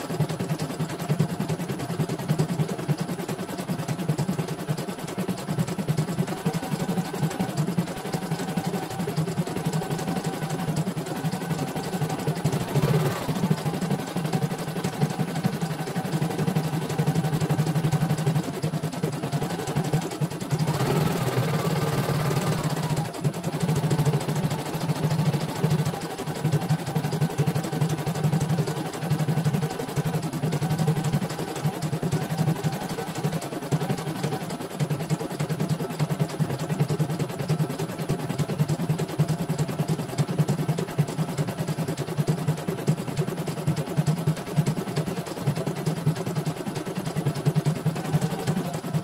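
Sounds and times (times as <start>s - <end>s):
embroidery machine stitching: 0.0s - 49.0s.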